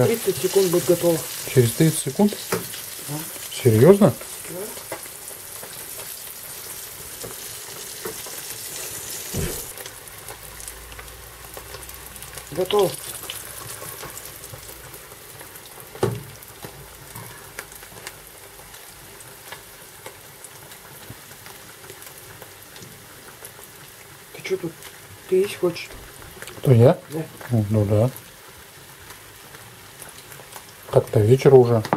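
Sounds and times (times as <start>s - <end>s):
fish sizzling in oil: 0.0s - 31.9s.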